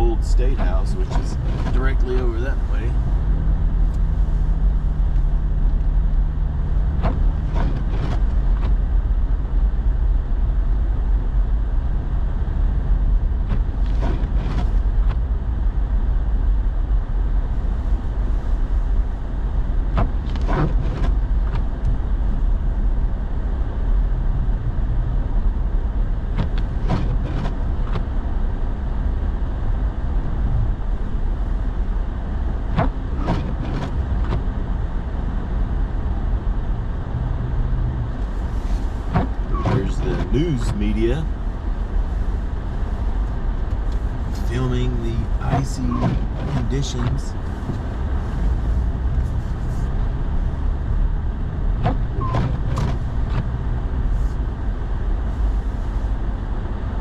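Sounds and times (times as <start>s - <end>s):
truck cabin road rumble: 0.0s - 57.0s.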